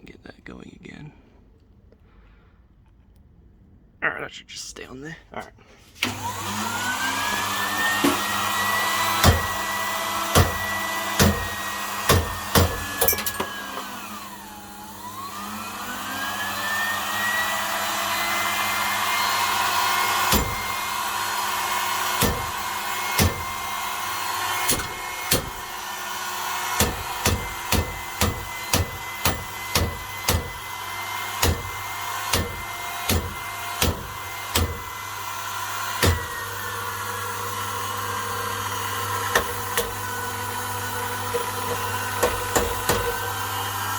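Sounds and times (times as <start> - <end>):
sewing machine motor whining: 6.0 - 43.9.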